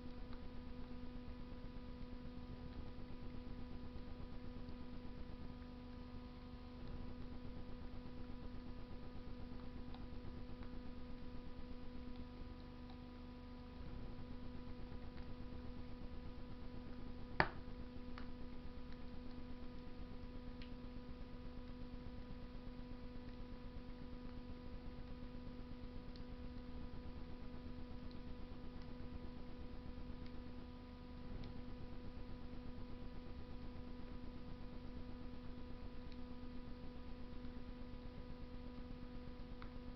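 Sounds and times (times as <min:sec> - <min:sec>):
electrical hum: 0:00.0 - 0:39.9
wood fire burning: 0:00.0 - 0:39.9.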